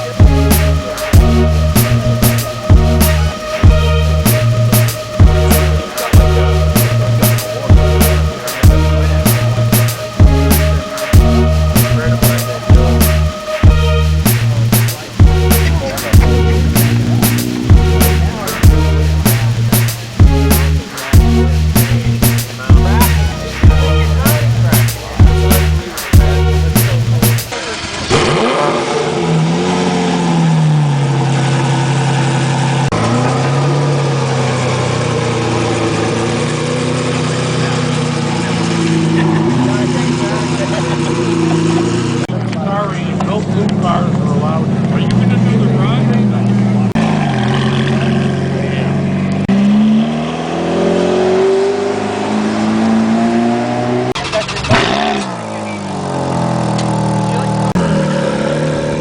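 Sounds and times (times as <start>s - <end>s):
sports car engine idling: 0.0s - 29.3s, 30.8s - 49.4s.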